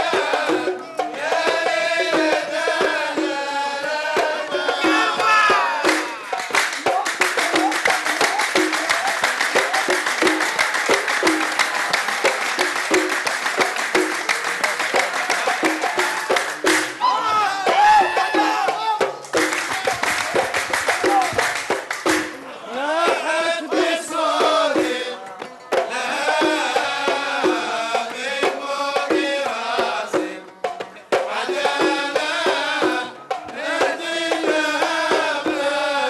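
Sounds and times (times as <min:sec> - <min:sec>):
men singing: 0:00.0 - 0:12.7, 0:14.4 - 0:21.8, 0:22.4 - 0:36.0
hand drums beating: 0:00.0 - 0:36.0
group hand clapping: 0:04.2 - 0:36.0.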